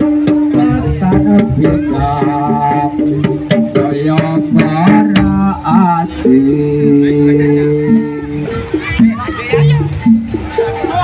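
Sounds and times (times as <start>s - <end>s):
hand drums beating quick rhythm: 0.0s - 11.0s
held melody notes: 0.0s - 11.0s.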